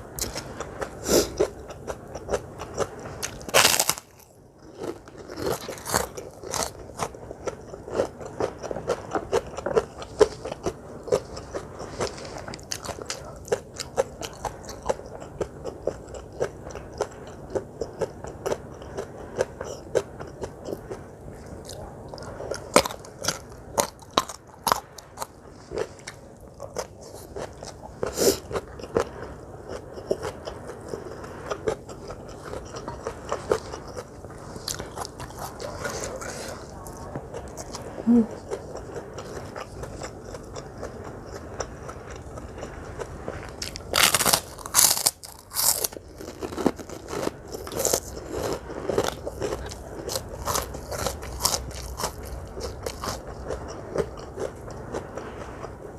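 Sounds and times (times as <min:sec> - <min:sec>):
crunching crisp food: 0:00.2 - 0:55.8.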